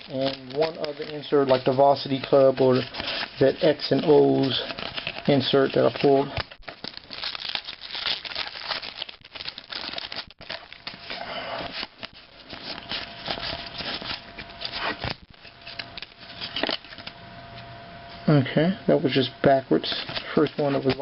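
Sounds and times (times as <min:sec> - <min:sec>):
trading cards rustling: 0:00.0 - 0:17.1, 0:19.7 - 0:21.0.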